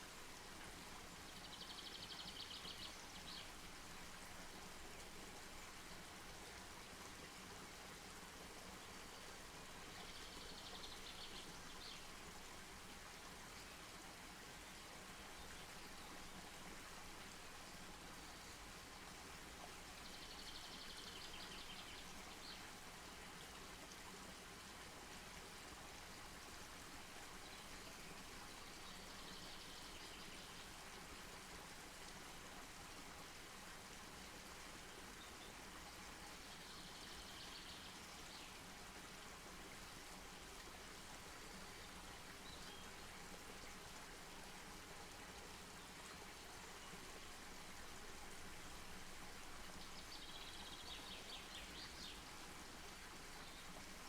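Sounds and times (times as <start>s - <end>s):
hiss of distant running water: 0.0s - 54.0s.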